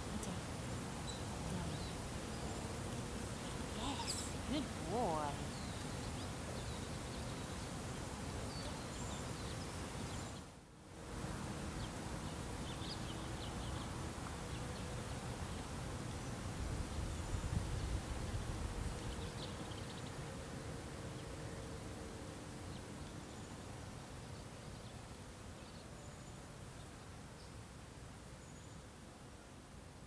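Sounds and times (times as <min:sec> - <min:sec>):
low outdoor background noise: 0:00.0 - 0:30.0.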